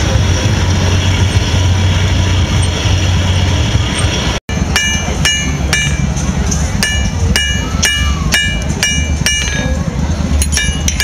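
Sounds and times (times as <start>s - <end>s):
forge blower rushing rumble: 0.0s - 11.0s.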